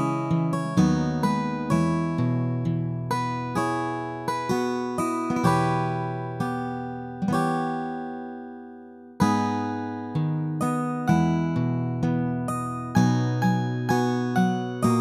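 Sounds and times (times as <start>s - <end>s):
acoustic guitar plucking chords: 0.0s - 15.0s.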